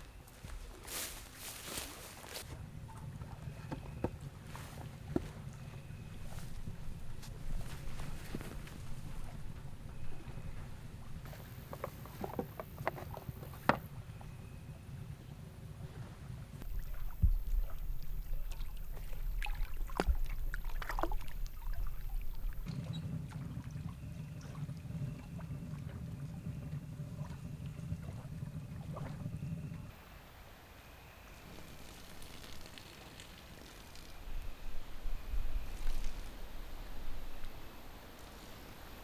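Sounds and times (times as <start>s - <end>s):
wind buffeting microphone: 2.4s - 30.0s, 34.1s - 39.0s.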